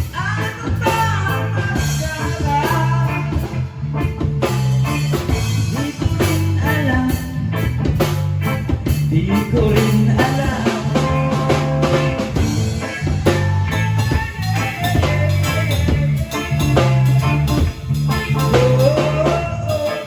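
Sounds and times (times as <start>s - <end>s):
drum kit beat: 0.0s - 20.0s
rock band playing: 0.0s - 20.0s.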